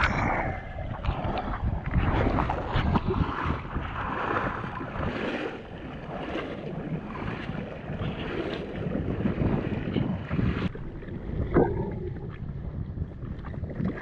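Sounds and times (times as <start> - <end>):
sea water washing: 0.0 - 14.0
wind buffeting the microphone: 0.0 - 14.0.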